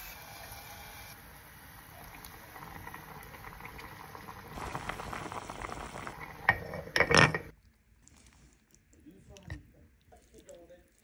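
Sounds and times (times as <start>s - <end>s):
stew bubbling in a pot: 1.1s - 11.0s.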